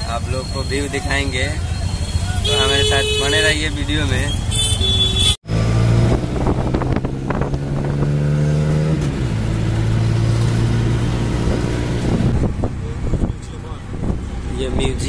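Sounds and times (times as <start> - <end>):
auto-rickshaw engine running: 0.0 - 15.0.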